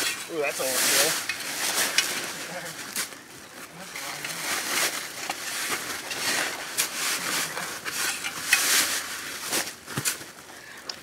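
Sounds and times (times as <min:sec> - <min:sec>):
sand pouring into sandbags: 0:00.0 - 0:03.1, 0:04.0 - 0:10.3.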